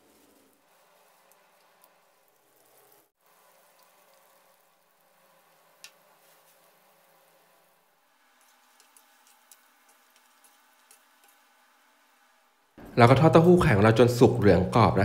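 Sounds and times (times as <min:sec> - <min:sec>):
small oil crackles: 0:00.0 - 0:12.4.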